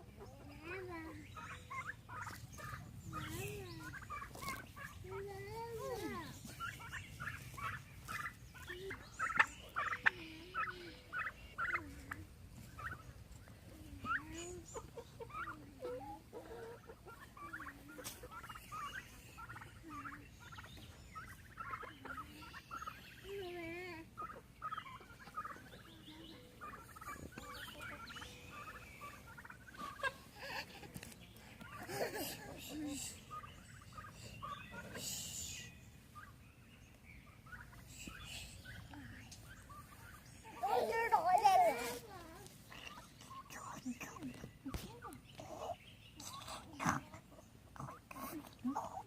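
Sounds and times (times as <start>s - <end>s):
turkeys gobbling: 0.0s - 23.3s, 24.0s - 35.0s, 35.7s - 43.6s.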